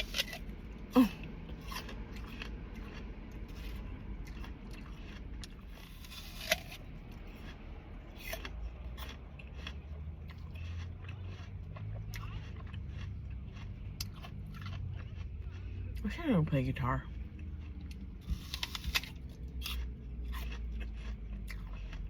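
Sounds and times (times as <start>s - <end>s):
chewing crunchy food: 0.0s - 22.0s.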